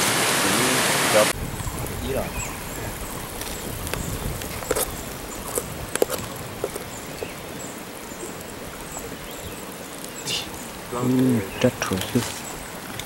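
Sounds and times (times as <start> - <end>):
broth bubbling: 0.0 - 13.0.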